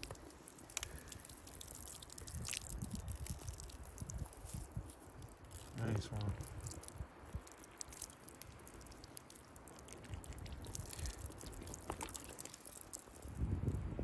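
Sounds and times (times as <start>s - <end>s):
water dripping and splashing: 0.0s - 13.9s.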